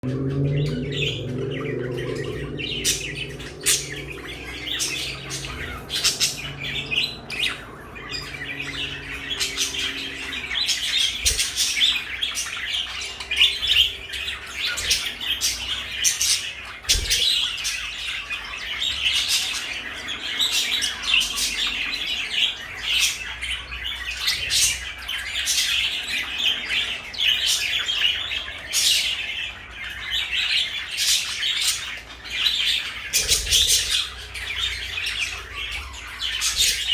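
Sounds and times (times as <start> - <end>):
parakeets chattering and chirping: 0.0 - 36.9.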